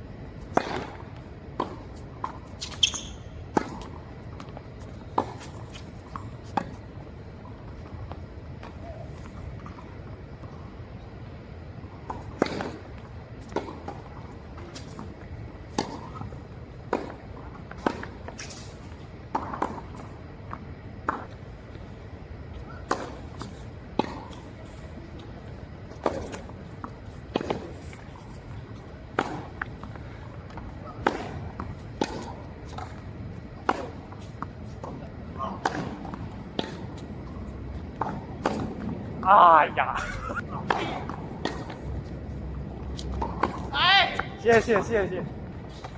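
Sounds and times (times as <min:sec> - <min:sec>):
steady background noise: 0:00.0 - 0:45.9.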